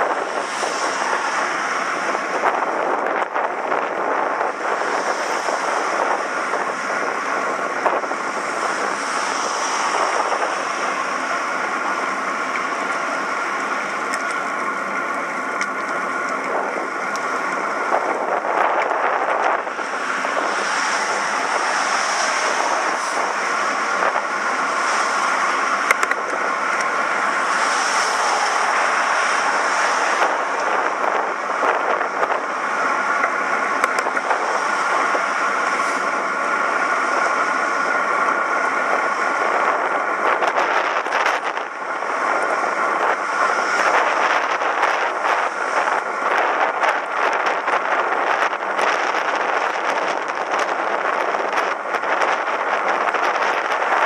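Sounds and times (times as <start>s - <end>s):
bicycle tyre rumble: 0.0s - 54.0s
rushing air: 0.0s - 54.0s.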